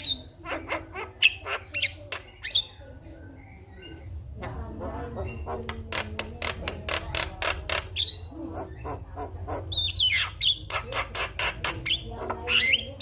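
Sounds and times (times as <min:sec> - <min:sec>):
myna harsh chatter and squawks: 0:00.0 - 0:13.0.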